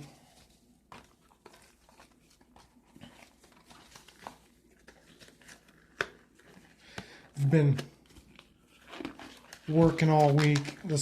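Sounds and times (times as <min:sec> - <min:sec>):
gloves rustling: 0:00.0 - 0:11.0.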